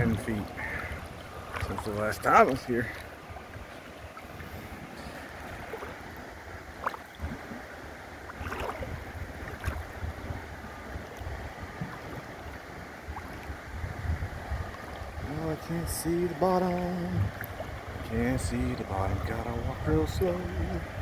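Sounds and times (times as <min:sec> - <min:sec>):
river water rushing: 0:00.0 - 0:21.0
wind buffeting microphone: 0:00.0 - 0:21.0.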